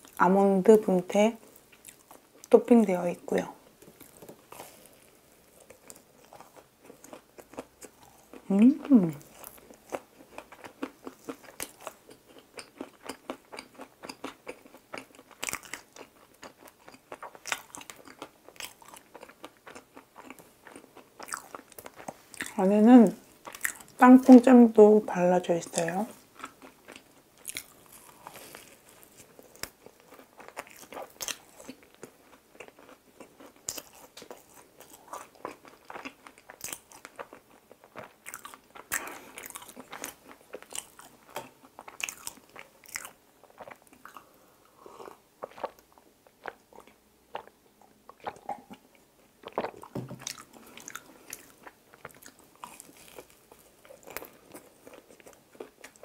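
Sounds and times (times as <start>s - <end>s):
person chewing crunchy food: 1.5s - 2.5s, 3.7s - 24.0s, 25.7s - 56.0s.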